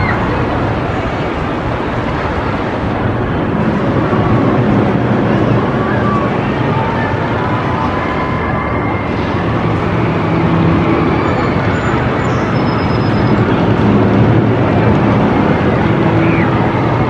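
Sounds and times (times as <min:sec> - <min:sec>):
roller coaster wheels rumbling on rails: 0:00.0 - 0:17.0.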